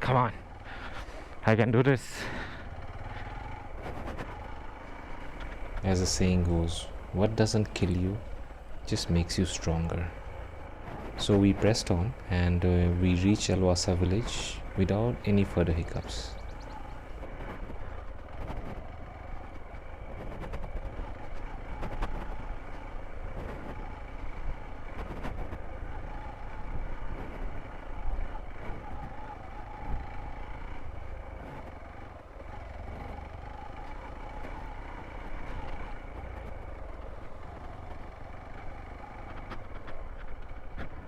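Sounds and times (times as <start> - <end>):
motorcycle engine running: 0.0 - 41.0
wind rumbling on microphone: 2.2 - 41.0.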